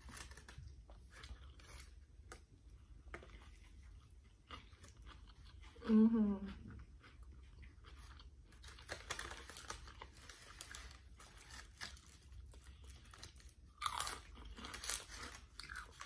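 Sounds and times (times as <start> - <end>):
chewing and crunching: 0.0 - 16.0.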